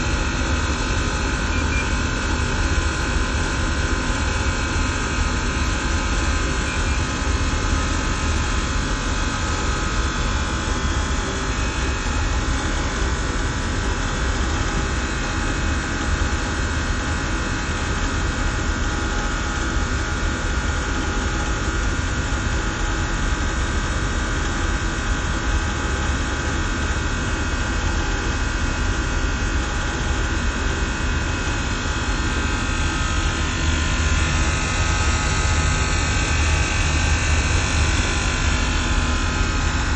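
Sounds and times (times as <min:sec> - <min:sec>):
hvac machine hum with tones: 0:00.0 - 0:39.9.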